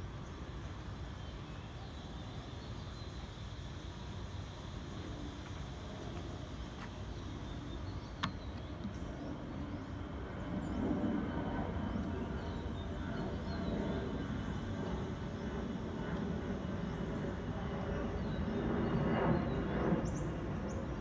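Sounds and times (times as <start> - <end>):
distant jet rumble: 0.0 - 21.0.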